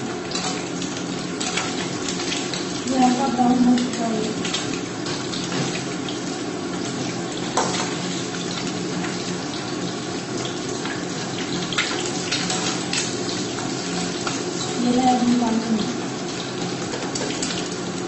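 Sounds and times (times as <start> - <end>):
eggs sizzling in hot oil: 0.0 - 18.0.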